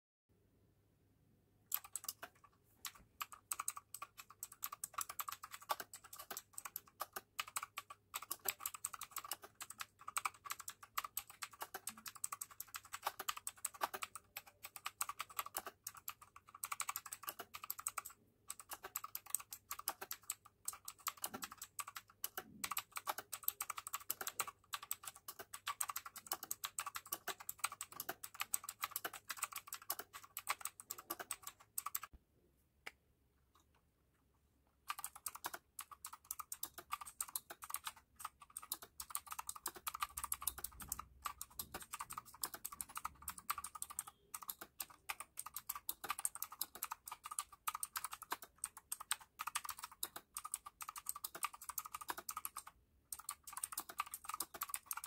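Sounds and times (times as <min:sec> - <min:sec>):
fast typing on mechanical keyboard: 0:01.7 - 0:32.1, 0:34.9 - 0:55.0.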